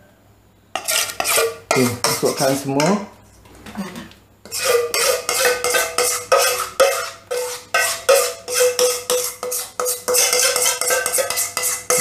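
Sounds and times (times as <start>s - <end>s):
metal spoon scraping a metal bowl: 0.7s - 3.0s, 4.5s - 12.0s.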